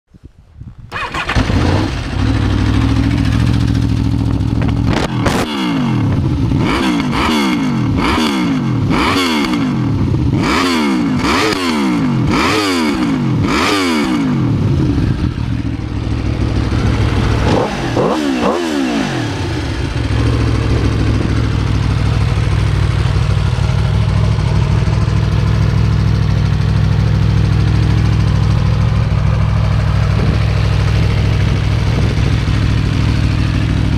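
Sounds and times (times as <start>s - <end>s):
motorcycle engine idling and revving: 0.6s - 33.9s.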